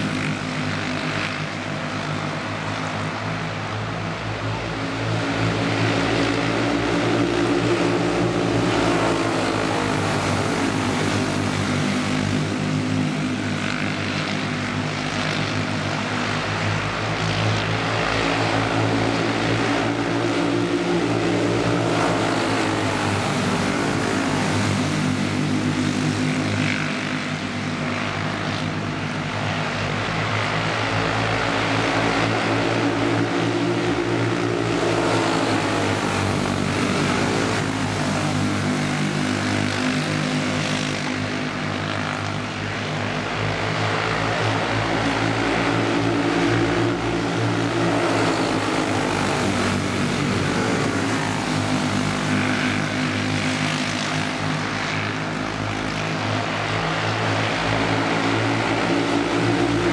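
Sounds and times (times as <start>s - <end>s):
kart engines buzzing past: 0.0s - 59.9s.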